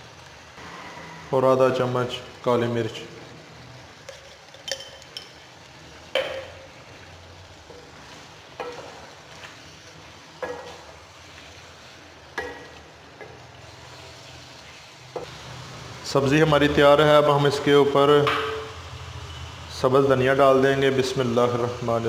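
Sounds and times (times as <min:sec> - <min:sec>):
curry simmering sizzle: 0:00.0 - 0:22.0.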